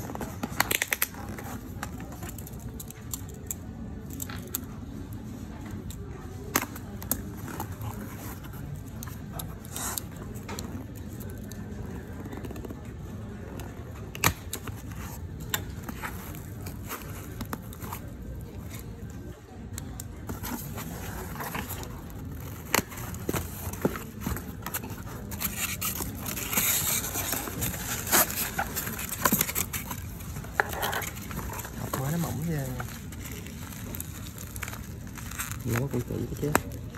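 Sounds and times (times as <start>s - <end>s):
packaging rustling and scraping: 0.0s - 19.3s, 19.9s - 36.9s.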